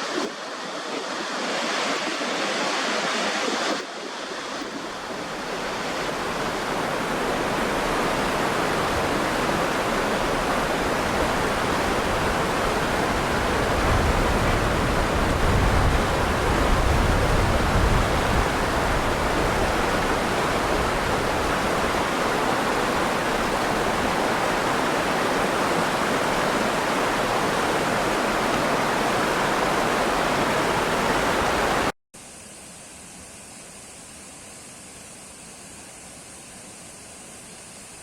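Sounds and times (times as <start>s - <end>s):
rushing water roar: 0.0s - 31.9s.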